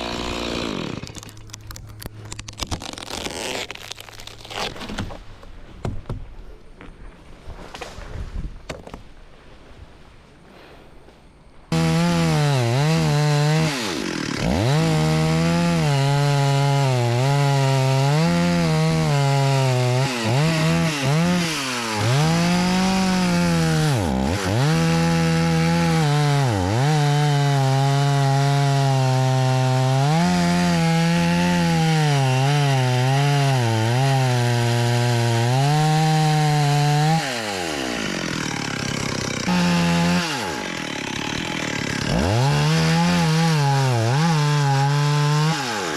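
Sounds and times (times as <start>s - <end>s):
chainsaw cutting wood: 0.0s - 5.2s, 11.7s - 45.9s.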